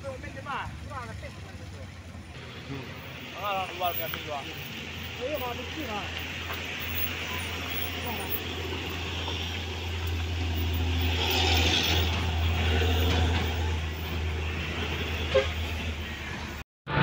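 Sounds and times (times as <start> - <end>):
diesel truck engine passing: 0.0 - 17.0.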